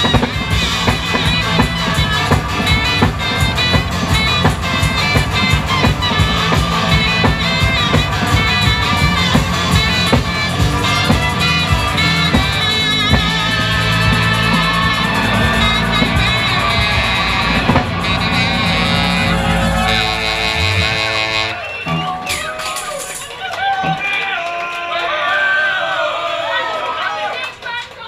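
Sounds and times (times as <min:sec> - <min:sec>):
live band playing: 0:00.0 - 0:24.1
steady drum beat: 0:00.0 - 0:24.2.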